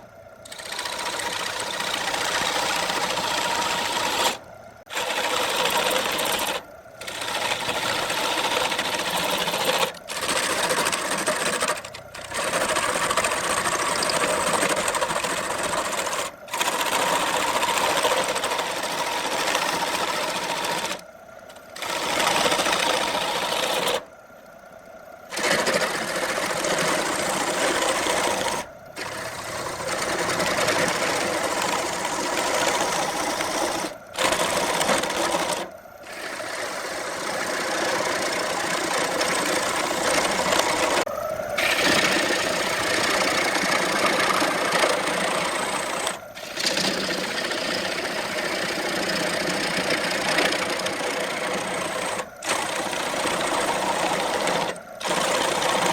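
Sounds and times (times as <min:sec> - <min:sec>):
wood lathe grinding whir: 0:00.0 - 0:24.2, 0:25.2 - 0:55.9.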